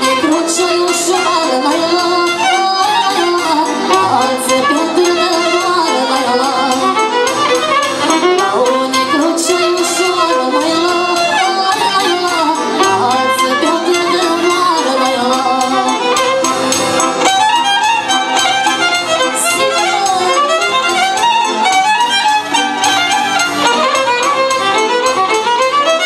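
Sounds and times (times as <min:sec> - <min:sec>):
electronic keyboard accompaniment: 0:00.0 - 0:26.0
violin melody: 0:00.0 - 0:26.0.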